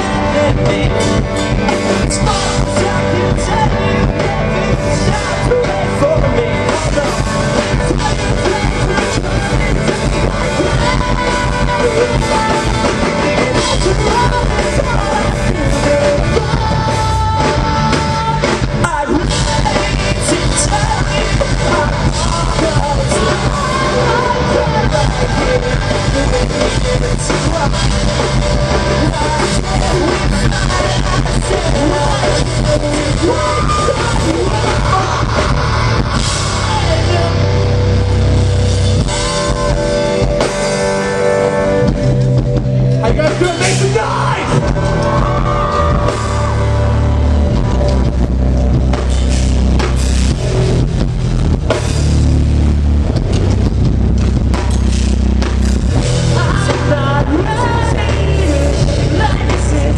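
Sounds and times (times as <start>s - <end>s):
person singing: 0.0s - 42.0s, 42.9s - 48.4s, 56.0s - 59.9s
bass guitar: 0.0s - 59.9s
drum kit: 0.0s - 59.9s
electric guitars: 0.0s - 59.9s.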